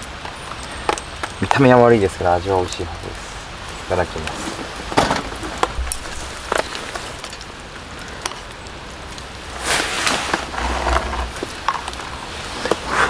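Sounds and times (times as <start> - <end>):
rain on a canvas tent: 0.0 - 13.0.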